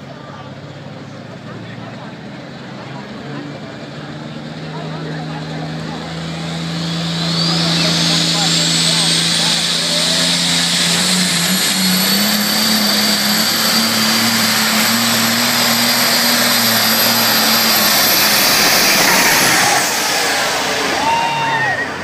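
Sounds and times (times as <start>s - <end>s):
diesel engine under full load: 0.0s - 22.0s
high turbo whine: 0.0s - 22.0s.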